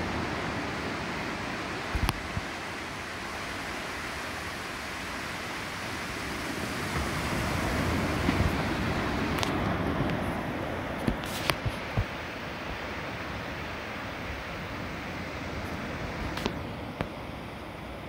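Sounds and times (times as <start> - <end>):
outdoor background rush: 0.0 - 18.0.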